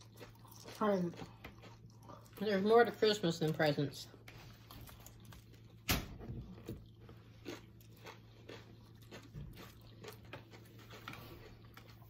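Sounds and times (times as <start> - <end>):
chewing crunchy chips: 0.0 - 12.0.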